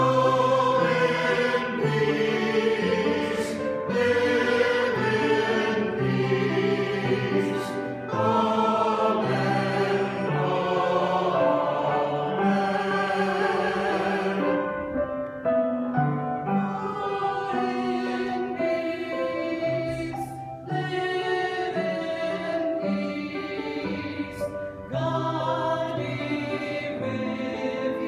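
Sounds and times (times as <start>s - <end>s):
church choir singing: 0.0s - 28.0s.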